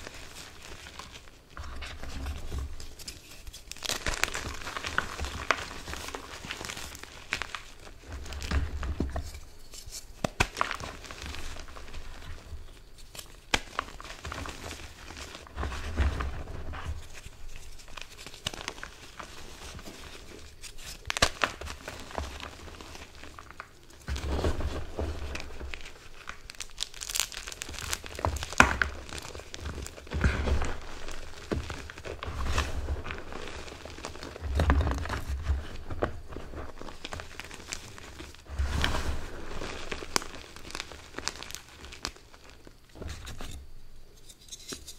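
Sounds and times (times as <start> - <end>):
hands crunching chalk: 0.0 - 42.6.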